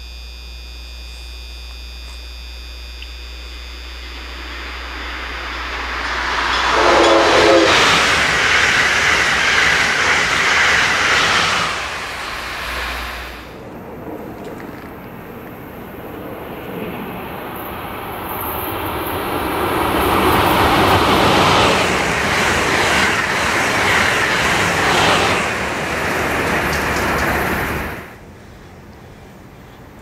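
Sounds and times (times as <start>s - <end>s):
high-speed train passing: 3.6s - 30.0s.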